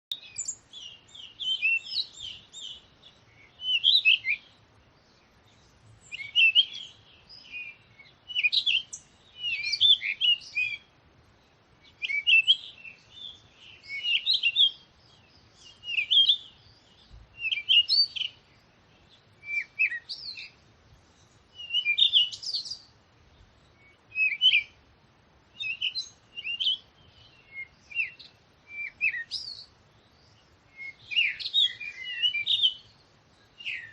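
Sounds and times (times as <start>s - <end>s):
songbirds warbling: 0.1s - 33.9s.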